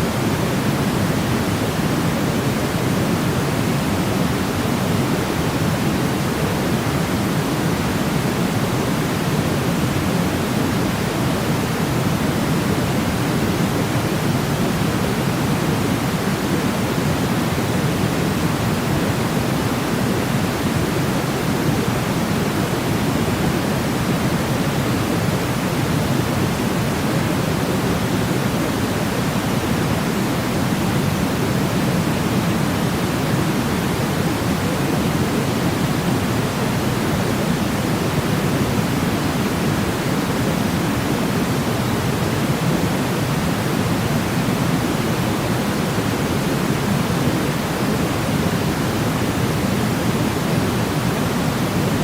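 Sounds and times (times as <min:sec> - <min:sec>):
pink noise: 0:00.0 - 0:52.0.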